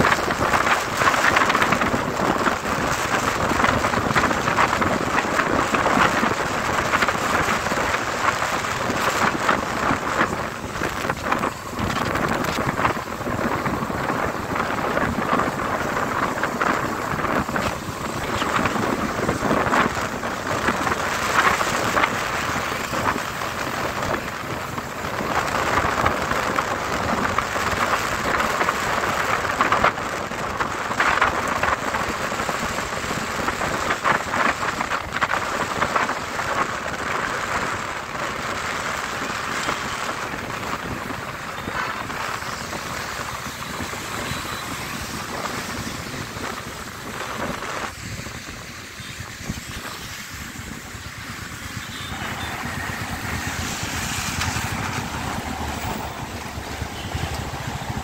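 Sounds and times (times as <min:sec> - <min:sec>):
rain and wind rushing: 0:00.0 - 0:58.0.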